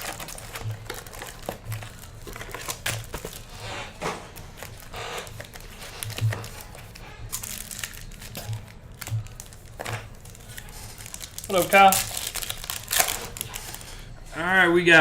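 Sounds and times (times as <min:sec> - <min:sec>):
foil wrappers crinkling and tearing: 0:00.0 - 0:14.2.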